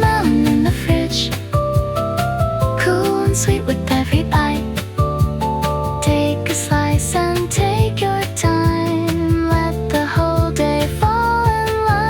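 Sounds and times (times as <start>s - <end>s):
soft pop song: 0.0s - 12.0s.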